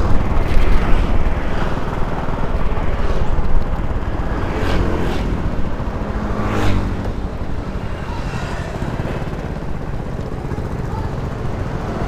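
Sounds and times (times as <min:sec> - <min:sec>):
wind rumble on microphone: 0:00.0 - 0:10.2
motor scooter engine: 0:00.0 - 0:12.0.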